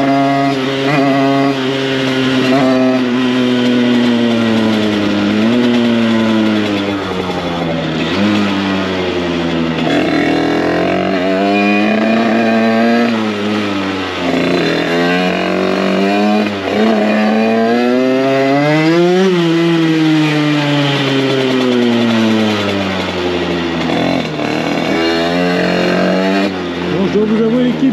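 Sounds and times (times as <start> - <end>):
two-stroke motorcycle engine revving: 0.0 - 27.9.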